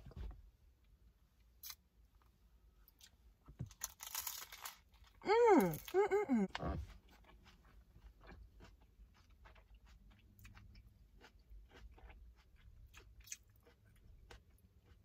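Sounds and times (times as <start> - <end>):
faint chewing with soft crunches: 0.0 - 15.0.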